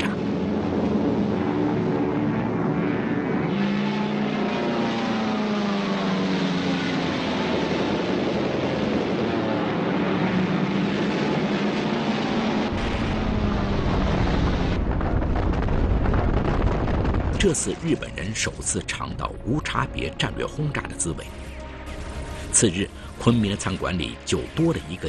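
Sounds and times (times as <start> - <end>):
deep rumble: 0.0 - 4.5, 5.5 - 24.3
propeller aircraft engines droning: 0.0 - 25.0.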